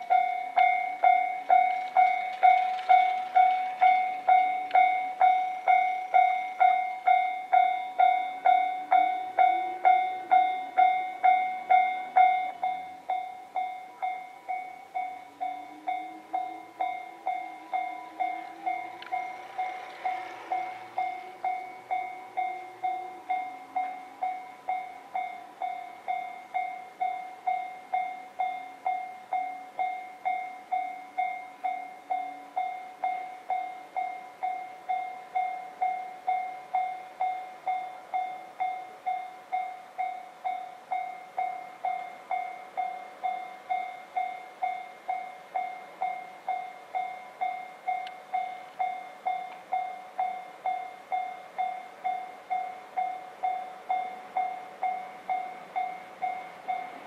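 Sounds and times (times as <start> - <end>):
level-crossing warning alarm ringing: 0.0 - 57.0.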